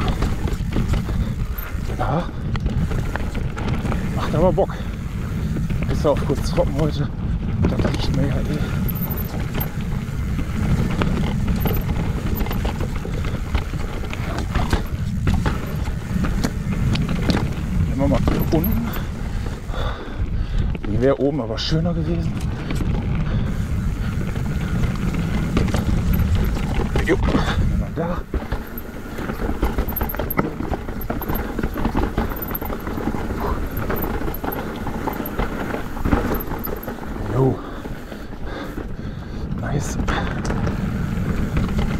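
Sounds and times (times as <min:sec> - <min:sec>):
tyres clattering over rough ground: 0:00.0 - 0:19.7, 0:24.4 - 0:39.0
bike rattling: 0:00.0 - 0:41.9
wind buffeting microphone: 0:00.0 - 0:41.9.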